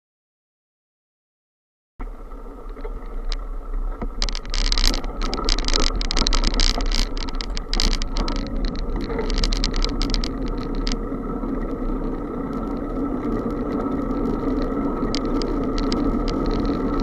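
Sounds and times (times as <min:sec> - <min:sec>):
wind rumbling on microphone: 0:02.0 - 0:17.0.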